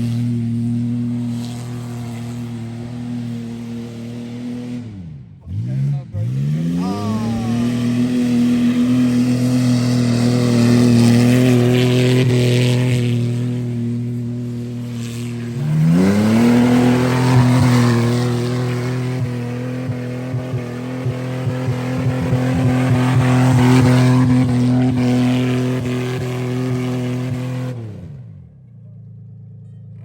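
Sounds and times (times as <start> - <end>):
car engine revving: 0.0 - 28.6.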